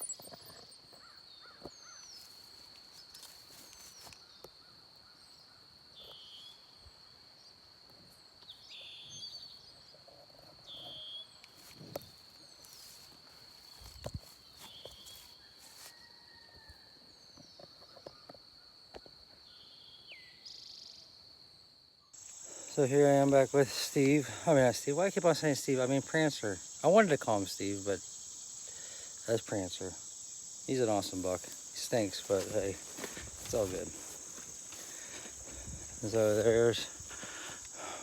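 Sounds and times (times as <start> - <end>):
insect chorus trilling: 0.0 - 7.5, 8.5 - 21.5, 22.1 - 38.0.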